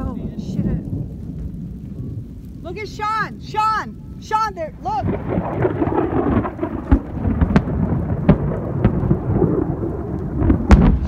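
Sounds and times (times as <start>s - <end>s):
rain: 0.0s - 11.0s
thunder rumbling: 0.0s - 11.0s.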